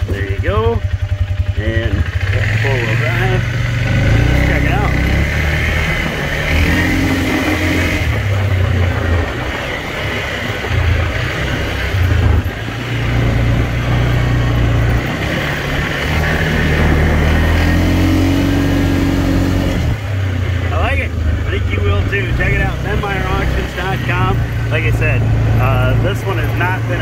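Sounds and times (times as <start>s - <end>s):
atv engine under throttle: 0.0s - 27.0s
tyres on gravel road: 0.0s - 27.0s.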